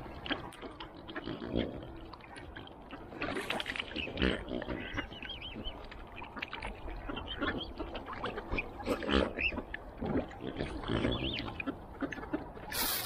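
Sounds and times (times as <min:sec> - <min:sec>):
ducks and waterfowl calling: 0:00.0 - 0:13.0.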